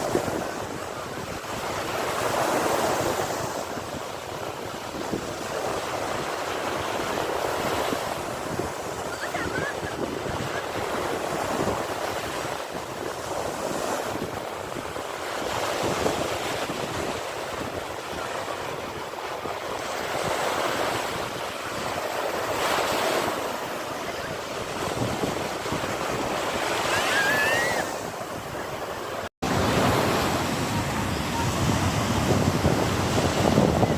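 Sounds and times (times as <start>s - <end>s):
sea waves washing on shore: 0.0s - 33.9s.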